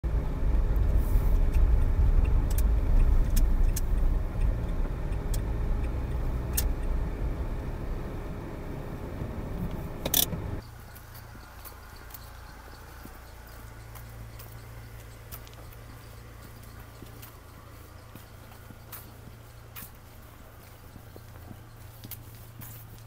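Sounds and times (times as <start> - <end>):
car rumbling at low speed: 0.0 - 23.0
faint ambience: 0.1 - 23.0.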